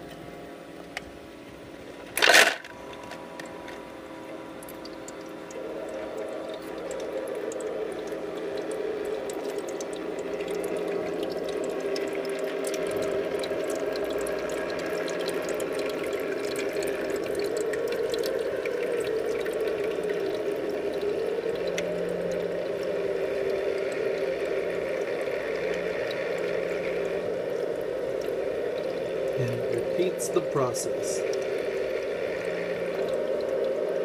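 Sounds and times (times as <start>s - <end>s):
faint low hum: 0.0s - 34.0s
water trickling and splashing: 0.0s - 34.0s.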